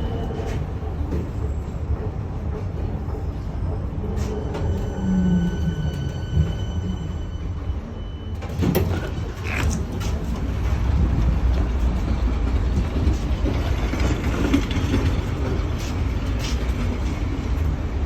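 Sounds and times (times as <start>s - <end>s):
tram low rumble: 0.0s - 18.0s.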